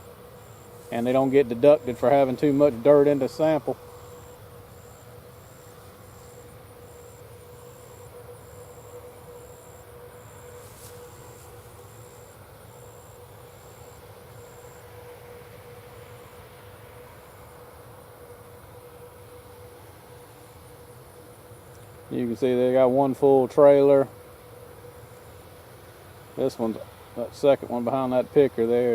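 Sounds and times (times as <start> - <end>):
distant farm machinery hum: 0.0 - 28.9
machine whine: 0.0 - 28.9.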